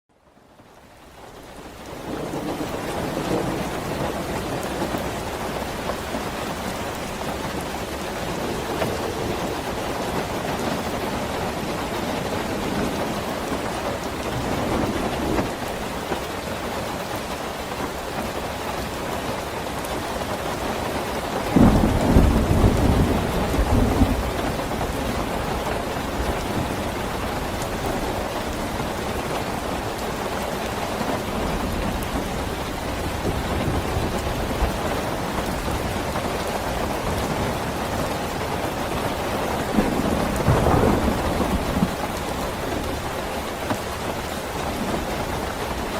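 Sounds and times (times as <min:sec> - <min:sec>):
steady rainfall: 0:00.1 - 0:45.9
thunder rumbling: 0:01.7 - 0:17.2, 0:21.4 - 0:45.9.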